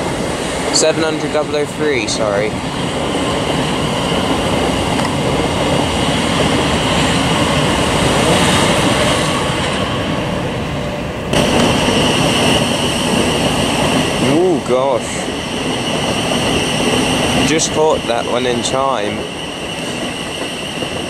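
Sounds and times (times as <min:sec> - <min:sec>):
train high whine: 0:00.0 - 0:21.0
train wheels rumbling on rail: 0:00.0 - 0:21.0.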